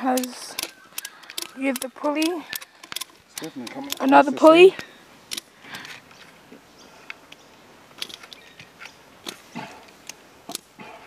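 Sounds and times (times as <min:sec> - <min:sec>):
metal clicking and clinking: 0:00.0 - 0:06.2, 0:07.3 - 0:10.7.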